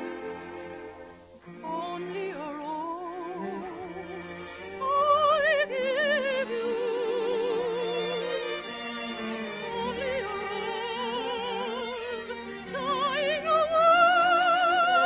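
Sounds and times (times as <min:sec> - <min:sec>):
orchestral accompaniment: 0:00.0 - 0:14.7
operetta singing with vibrato: 0:00.0 - 0:15.0.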